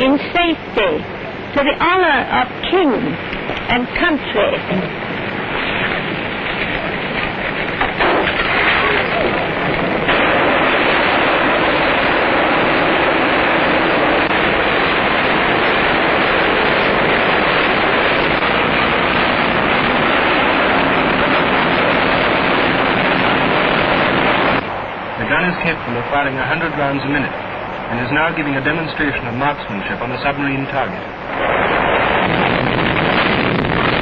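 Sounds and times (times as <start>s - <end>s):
aircraft engines running: 0.0s - 34.0s.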